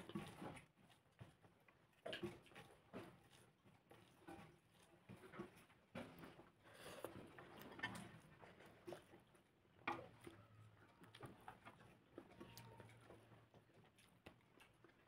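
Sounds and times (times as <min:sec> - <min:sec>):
chewing with mouth clicks: 0:00.0 - 0:15.0.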